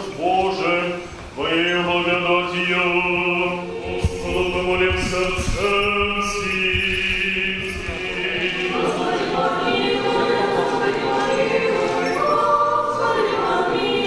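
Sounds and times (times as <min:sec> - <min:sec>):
voices singing church chant: 0:00.0 - 0:14.0.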